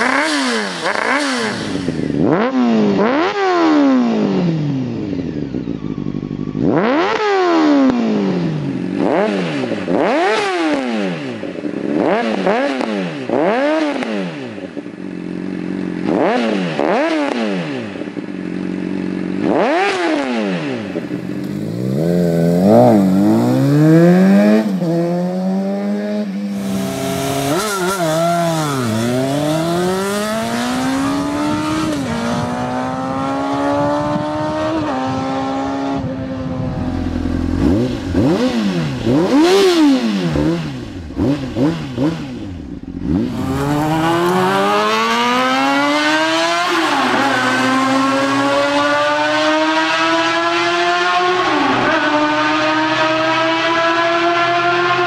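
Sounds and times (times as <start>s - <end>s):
motorcycle accelerating through gears: 0.0s - 55.0s
motorcycle engine revving: 0.0s - 55.0s.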